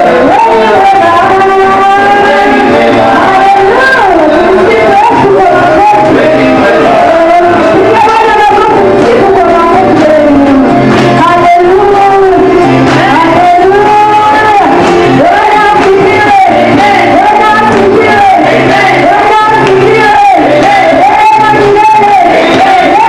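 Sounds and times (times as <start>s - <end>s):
amplified band music: 0.0s - 23.0s
congregation singing: 0.0s - 23.0s.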